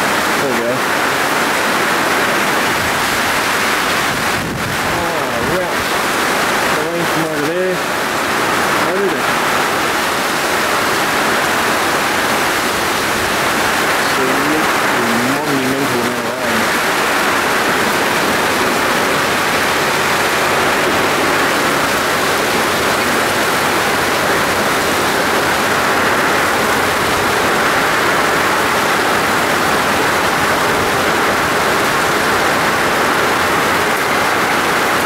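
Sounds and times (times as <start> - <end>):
heavy rain: 0.0 - 35.0.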